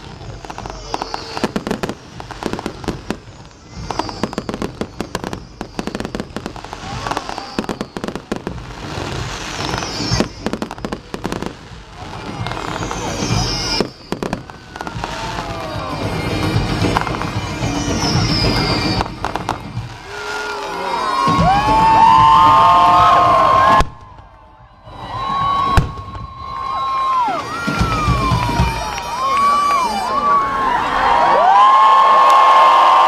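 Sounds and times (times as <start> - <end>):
fireworks bangs and crackling: 0.0 - 33.0
fireworks whistling: 0.0 - 33.0.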